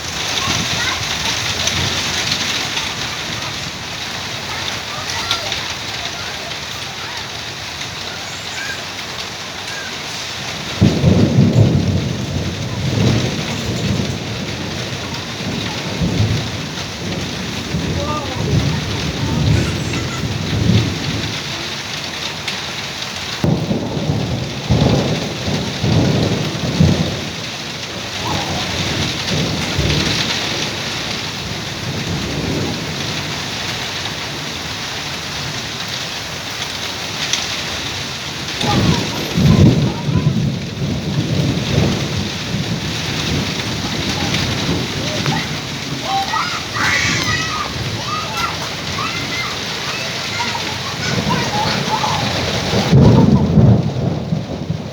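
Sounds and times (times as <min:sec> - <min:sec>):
heavy rain falling: 0:00.0 - 0:54.9
thunder rumbling: 0:00.0 - 0:54.9.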